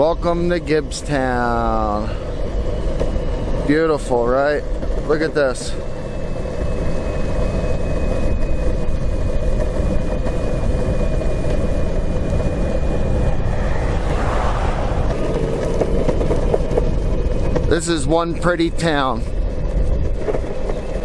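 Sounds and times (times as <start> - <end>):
skateboard wheels rumbling: 0.0 - 21.0.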